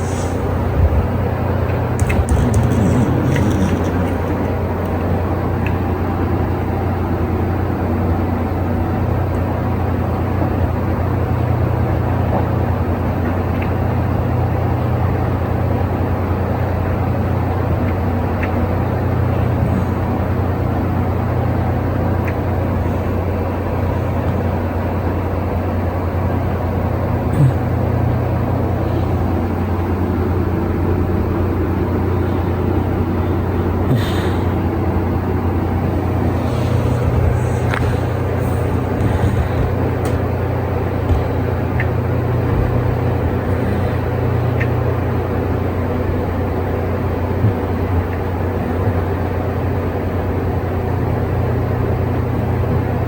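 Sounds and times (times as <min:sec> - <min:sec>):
machinery droning hum: 0:00.0 - 0:53.0.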